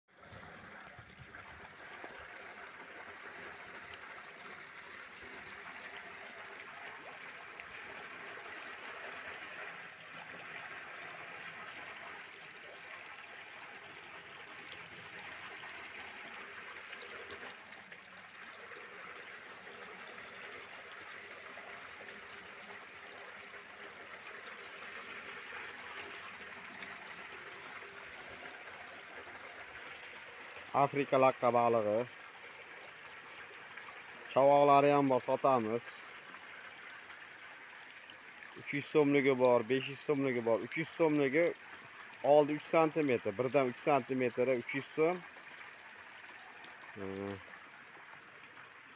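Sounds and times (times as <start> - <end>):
water running and trickling: 0.1 - 48.9.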